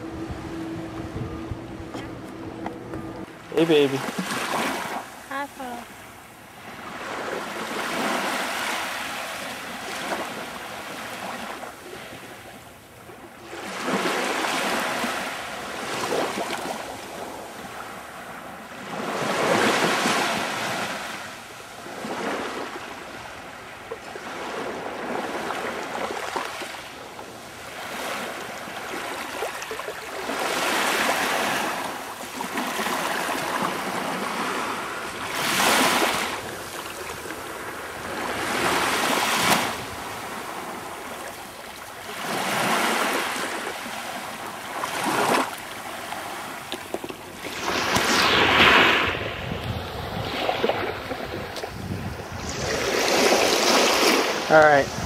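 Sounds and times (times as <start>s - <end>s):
small waves washing on sand: 3.4s - 5.8s, 6.6s - 55.0s.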